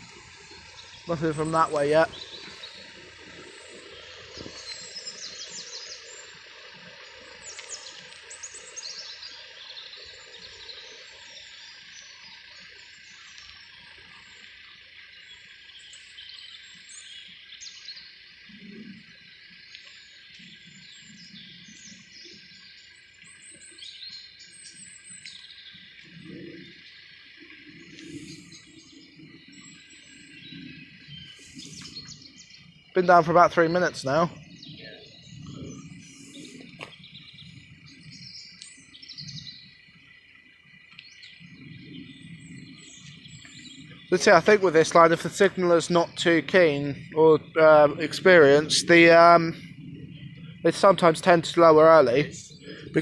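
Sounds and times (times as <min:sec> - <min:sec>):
outdoor background hiss: 0:00.0 - 0:53.0
small birds chirping and singing: 0:00.0 - 0:53.0.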